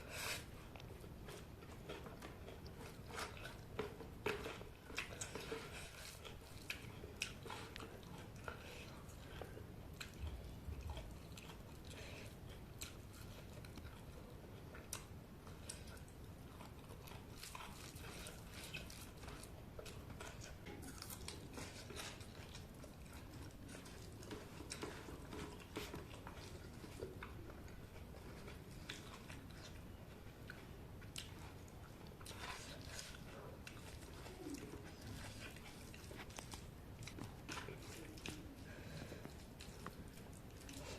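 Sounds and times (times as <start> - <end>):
person chewing and biting: 0.8 - 40.9.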